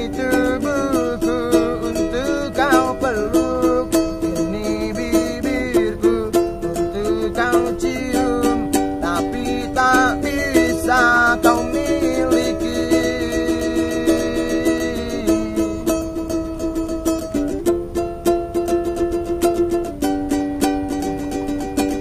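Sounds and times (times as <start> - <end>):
small ukulele strummed: 0.0 - 22.0.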